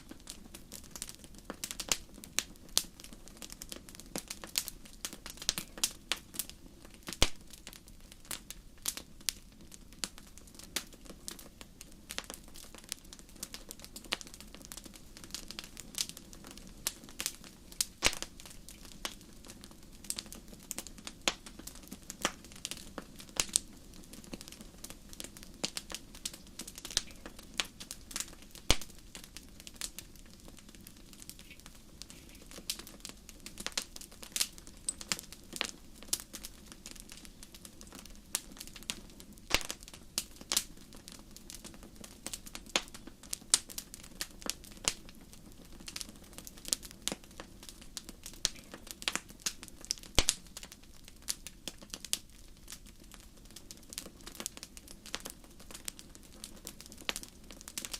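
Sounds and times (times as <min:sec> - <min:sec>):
campfire crackling: 0:00.0 - 0:57.9.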